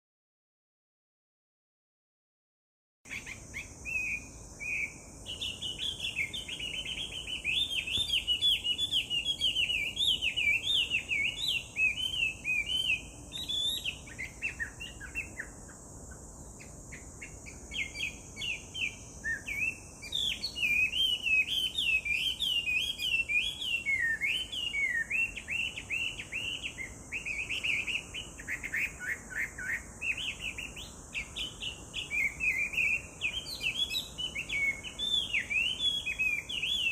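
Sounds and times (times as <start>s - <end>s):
steady high hiss: 3.1s - 36.9s.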